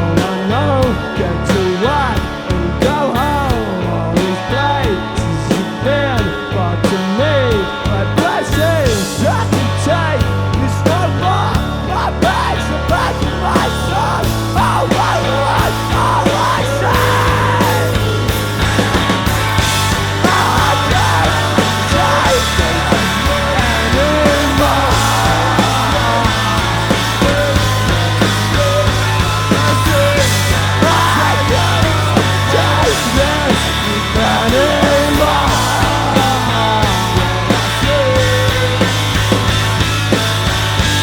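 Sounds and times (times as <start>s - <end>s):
bass guitar: 0.0s - 41.0s
bending lead guitar line: 0.0s - 41.0s
drums: 0.0s - 41.0s
electric guitars: 0.0s - 41.0s.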